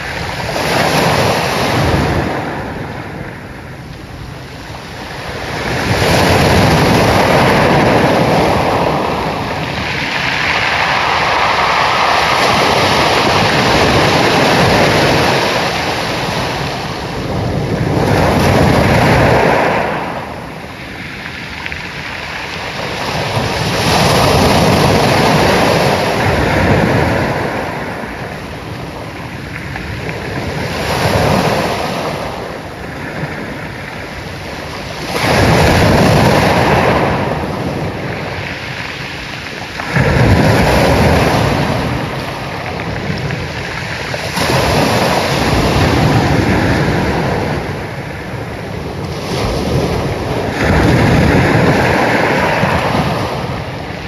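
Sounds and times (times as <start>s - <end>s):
ocean waves crashing on shore: 0.0s - 54.0s.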